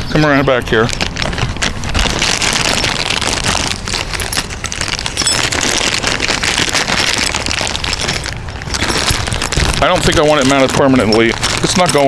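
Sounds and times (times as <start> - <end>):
plastic bag crinkling: 0.7 - 12.0.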